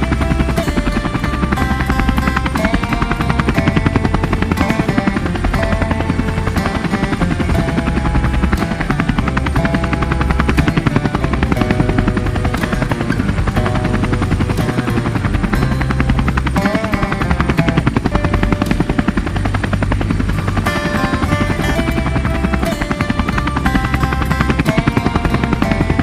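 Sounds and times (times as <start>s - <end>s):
background music with bass line: 0.0s - 26.0s
helicopter rotor blades chopping: 0.0s - 26.0s.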